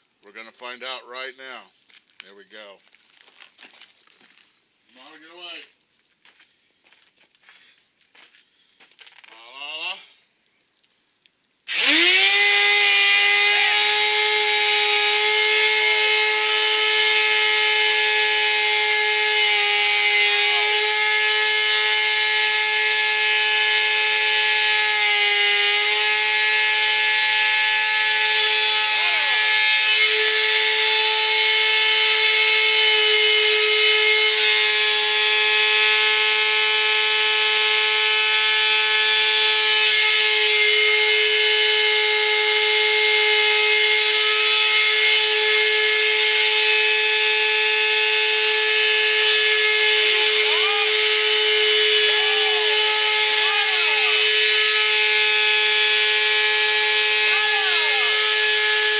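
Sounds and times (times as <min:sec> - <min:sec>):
vacuum cleaner motor whine: 0:11.7 - 0:58.9.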